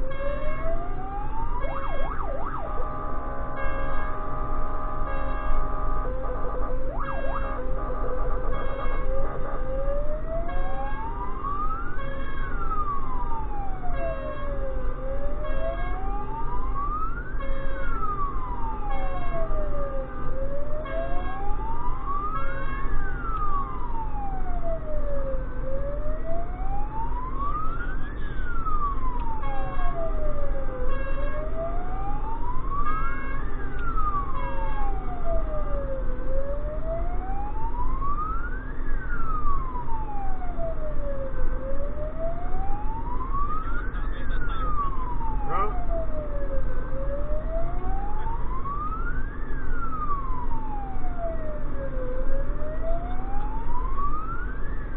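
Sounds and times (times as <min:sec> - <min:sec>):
engine and road noise: 0:00.0 - 0:54.9
siren wailing: 0:00.0 - 0:54.9.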